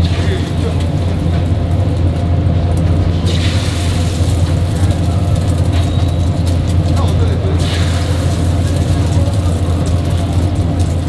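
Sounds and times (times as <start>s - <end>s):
low machine hum: 0.0s - 11.0s
noisy wash: 0.0s - 11.0s.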